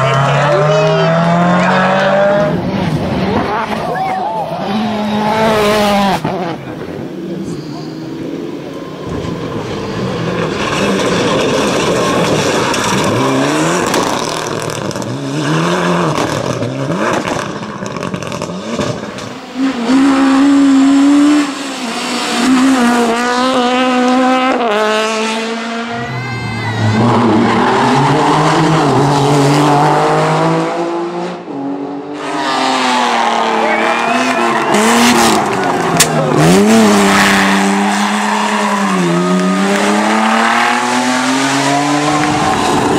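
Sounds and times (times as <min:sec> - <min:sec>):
rally car engines revving hard: 0:00.0 - 0:42.9.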